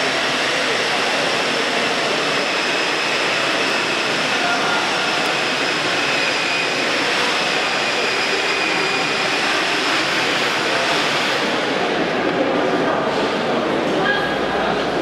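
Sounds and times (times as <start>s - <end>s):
factory machinery hissing: 0.0s - 13.8s.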